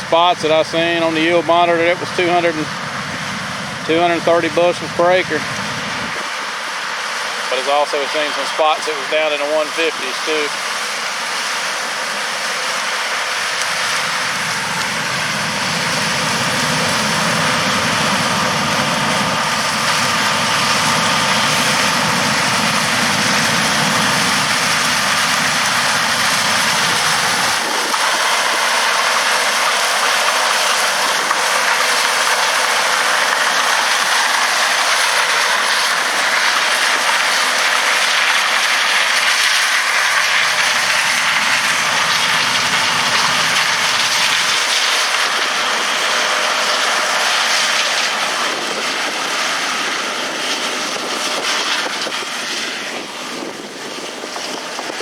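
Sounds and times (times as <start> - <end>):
combine harvester running: 0.0 - 55.0
low mechanical rumble: 0.0 - 55.0.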